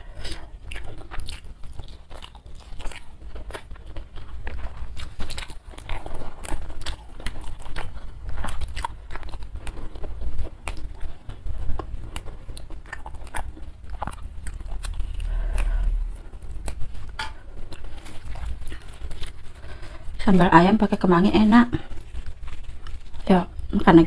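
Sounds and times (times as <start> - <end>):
chewing and crunching food: 0.0 - 24.0.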